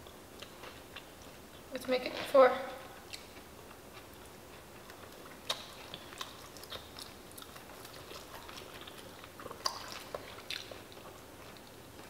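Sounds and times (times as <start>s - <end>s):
person chewing crisp food: 0.0s - 1.7s, 3.0s - 12.0s.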